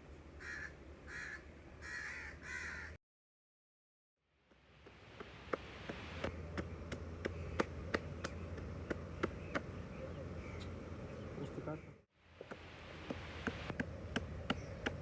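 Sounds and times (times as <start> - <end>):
outdoor background hiss: 0.0 - 3.0, 4.2 - 15.0.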